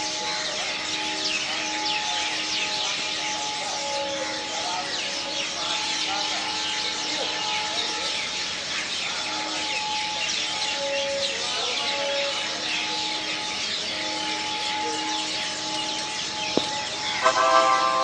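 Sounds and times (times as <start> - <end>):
many birds chirping: 0.0 - 18.0.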